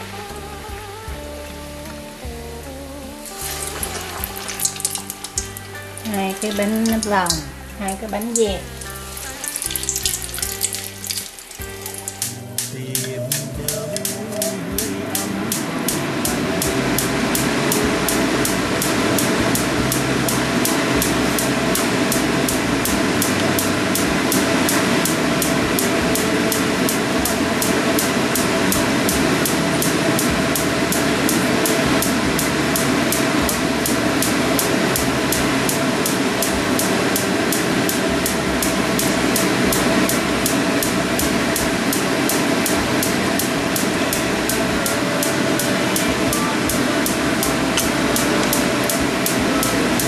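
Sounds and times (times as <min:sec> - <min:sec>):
regular ticking: 0:00.0 - 0:50.0
oil sizzling while deep-frying: 0:03.2 - 0:13.1, 0:17.0 - 0:50.0.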